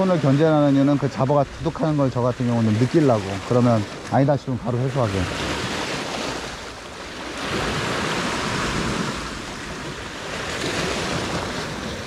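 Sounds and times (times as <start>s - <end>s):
sea surf on rocky shore: 0.0s - 12.0s.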